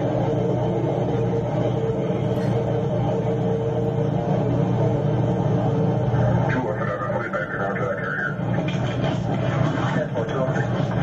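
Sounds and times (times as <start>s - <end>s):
electronic music with low drone: 0.0s - 11.0s.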